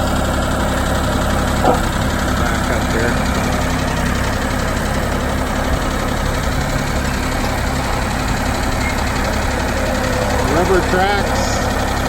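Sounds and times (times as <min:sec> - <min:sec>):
backhoe engine idling: 0:00.0 - 0:12.0.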